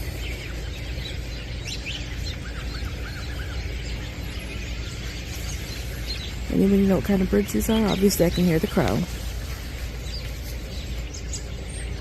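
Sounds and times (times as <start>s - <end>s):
many birds chirping: 0.0s - 12.0s
steady low rumble: 0.0s - 12.0s.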